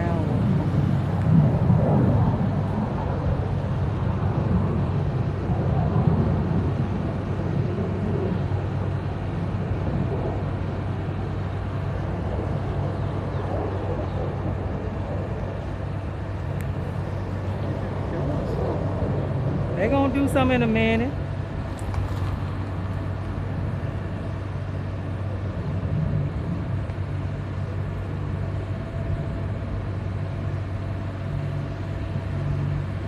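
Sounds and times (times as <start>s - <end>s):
low engine drone: 0.0s - 33.0s.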